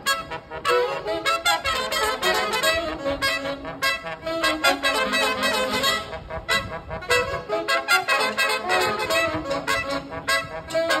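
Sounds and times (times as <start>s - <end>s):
trumpets and saxophones: 0.0s - 11.0s.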